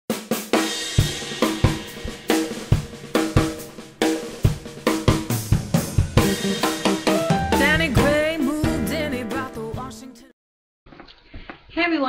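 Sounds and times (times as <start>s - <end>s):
drum kit beat: 0.1s - 10.1s.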